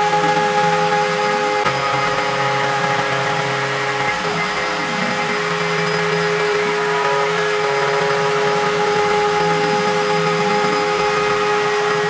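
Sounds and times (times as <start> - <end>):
router spindle whine: 0.0 - 12.0.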